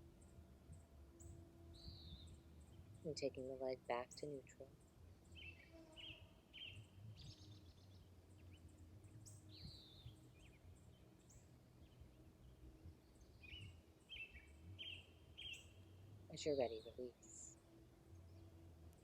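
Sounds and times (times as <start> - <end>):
faint birdsong: 0.0 - 19.0.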